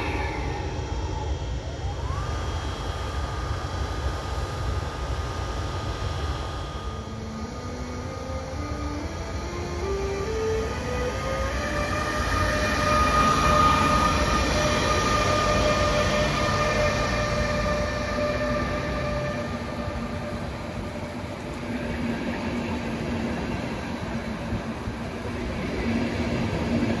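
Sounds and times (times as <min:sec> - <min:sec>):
electric locomotive whining: 0:00.0 - 0:27.0
rumble of train wheels: 0:00.0 - 0:27.0.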